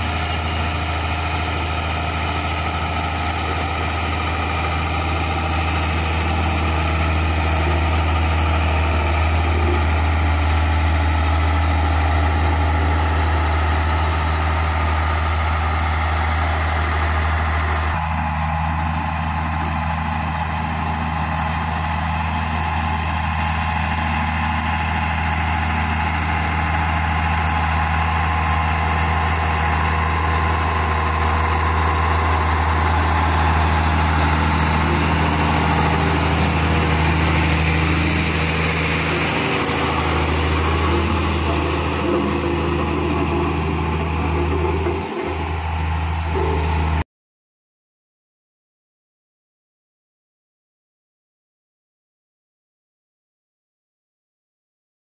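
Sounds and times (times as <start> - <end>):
road roller diesel engine running: 0.0 - 47.0.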